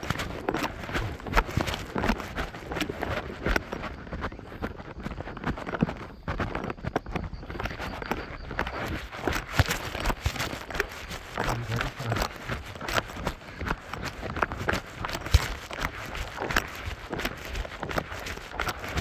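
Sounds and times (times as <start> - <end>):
running footsteps on a trail: 0.0 - 19.0.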